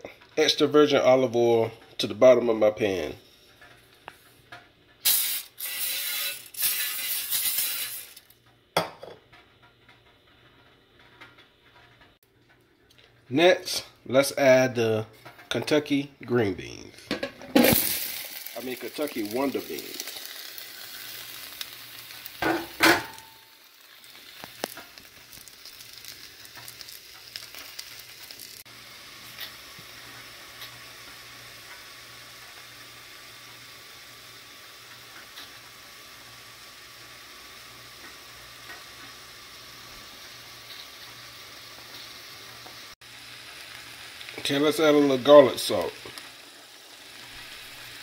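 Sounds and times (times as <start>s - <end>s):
green beans sizzling in a pan: 0.0s - 12.2s, 13.4s - 48.0s.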